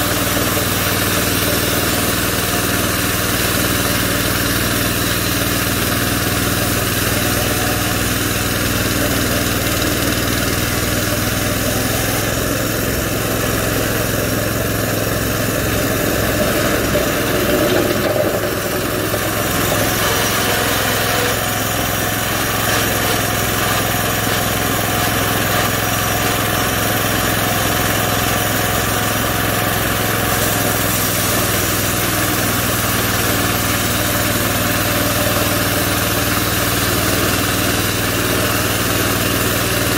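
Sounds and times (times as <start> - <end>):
band saw blade cutting wood: 0.0 - 39.9
small gasoline engine running: 0.0 - 39.9.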